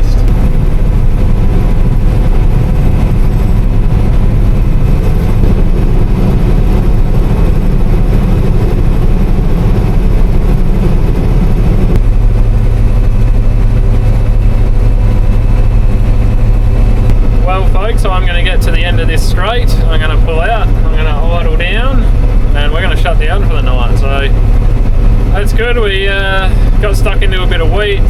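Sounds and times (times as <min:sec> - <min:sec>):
combine harvester low hum: 0:00.0 - 0:28.0.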